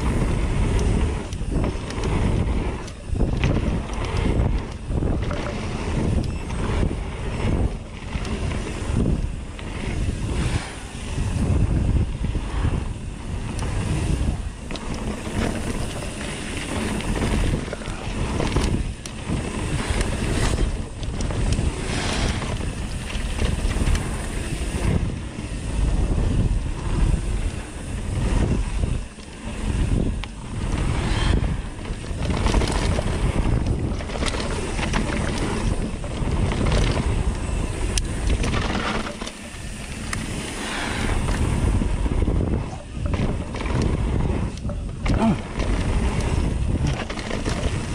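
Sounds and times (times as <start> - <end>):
bike knocks and rattles: 0.0 - 10.4, 11.2 - 47.9
tyres on dirt trail: 0.0 - 47.9
wind buffeting microphone: 0.0 - 47.9.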